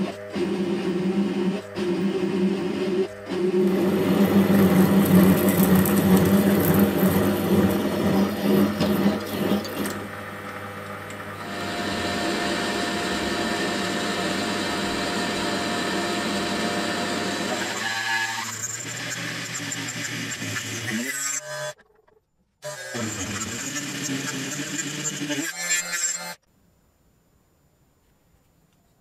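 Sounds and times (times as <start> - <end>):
metal lathe cutting: 0.0 - 21.8, 22.6 - 26.4.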